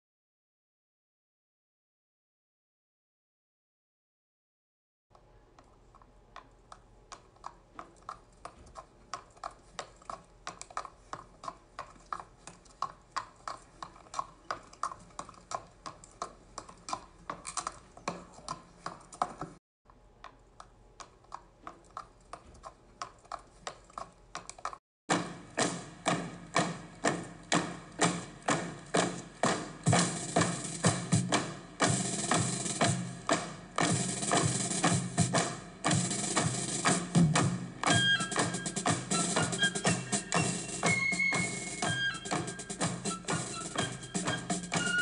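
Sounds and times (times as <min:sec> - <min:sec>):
horse hooves clopping on dirt: 0:06.7 - 0:19.6, 0:21.0 - 0:45.0.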